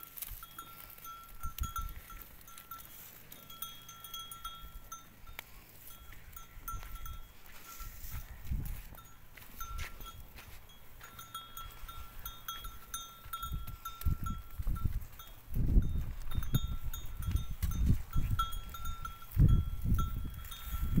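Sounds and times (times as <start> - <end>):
cattle grazing on straw: 0.0 - 21.0
small bell ringing: 0.0 - 21.0.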